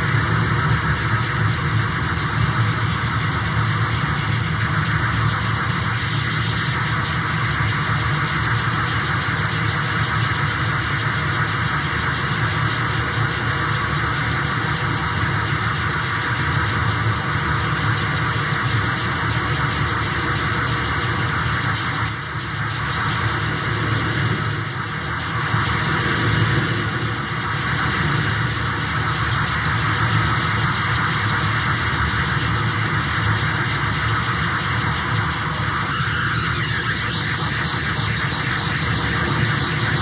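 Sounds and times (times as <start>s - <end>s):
dense electronic noise: 0.0s - 40.0s
low drone: 0.0s - 40.0s.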